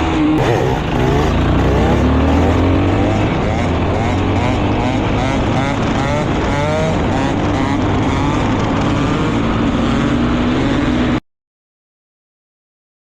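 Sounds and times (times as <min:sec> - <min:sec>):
motorcycle engines revving: 0:00.4 - 0:11.2.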